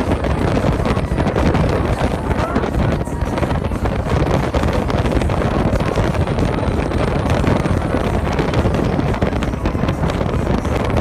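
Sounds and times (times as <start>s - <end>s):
low boat rumble: 0.0s - 11.0s
wind buffeting microphone: 0.0s - 11.0s.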